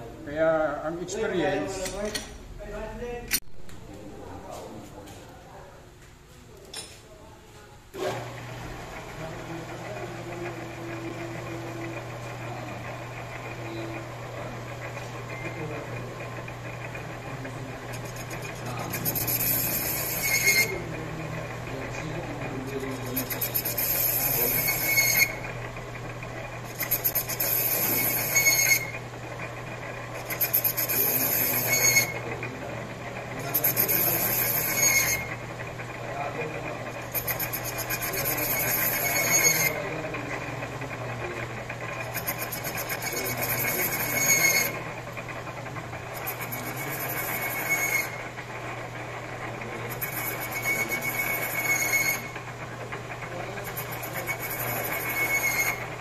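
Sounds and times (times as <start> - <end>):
lathe humming: 7.9 - 56.0
lathe tool bit scraping squeal: 8.0 - 56.0.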